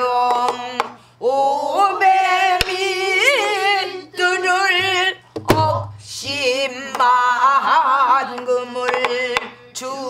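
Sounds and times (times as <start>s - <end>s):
woman singing: 0.0s - 10.0s.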